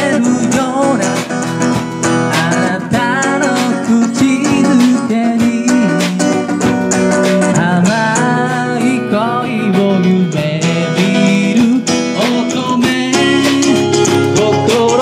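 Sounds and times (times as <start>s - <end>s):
live band through speakers: 0.0s - 15.0s.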